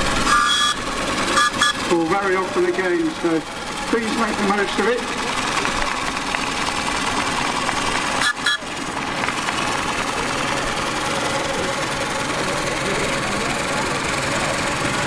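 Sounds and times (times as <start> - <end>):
steam engines chuffing and clattering: 0.0 - 15.0.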